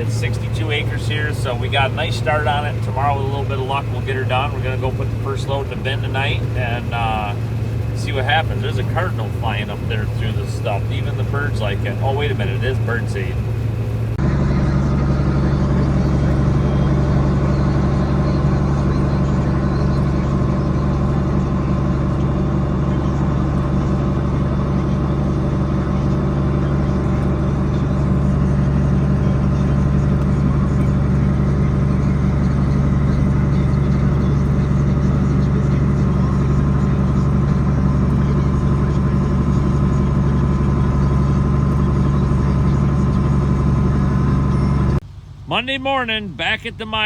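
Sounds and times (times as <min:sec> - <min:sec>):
combine harvester running: 0:00.0 - 0:47.0.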